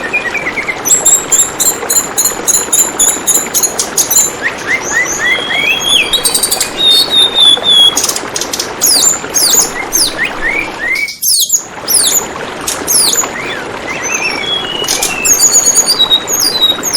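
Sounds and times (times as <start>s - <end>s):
bird whistles and chirps: 0.0s - 8.2s, 8.8s - 12.2s, 12.9s - 16.9s
flowing water trickle: 0.0s - 16.9s.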